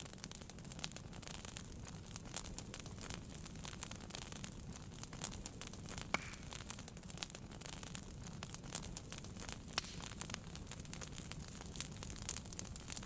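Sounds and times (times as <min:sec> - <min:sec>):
sharp fire pops: 0:00.0 - 0:13.0
wood fire crackling: 0:00.0 - 0:13.0.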